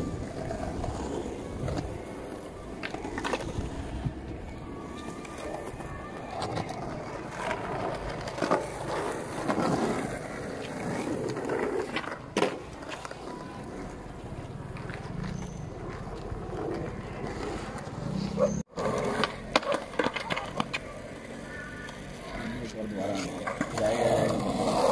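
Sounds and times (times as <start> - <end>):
skateboard clacking on ground: 0.0 - 24.9
skateboard wheels rolling on concrete: 0.0 - 24.9.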